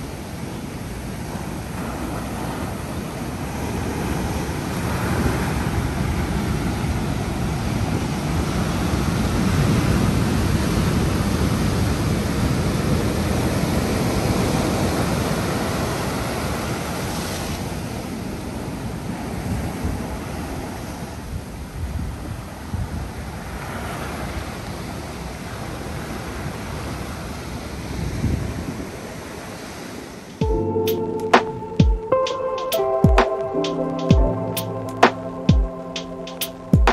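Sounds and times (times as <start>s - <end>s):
wave breaking and washing in: 0.0s - 21.7s, 22.3s - 36.9s.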